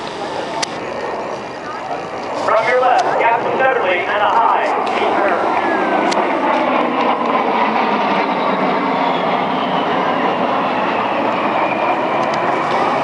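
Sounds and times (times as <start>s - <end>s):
faint jet whine: 0.0s - 13.0s
jet engines passing: 0.0s - 13.0s.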